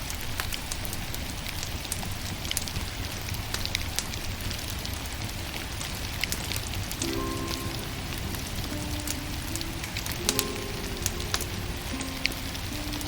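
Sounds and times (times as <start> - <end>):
firewood crackling and popping: 0.0 - 13.0.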